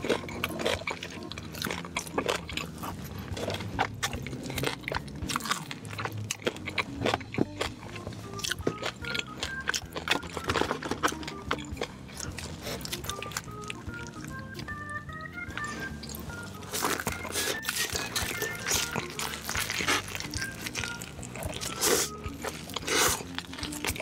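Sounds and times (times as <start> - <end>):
chewing crispy fried food: 0.0 - 24.0
soft background music: 0.0 - 24.0.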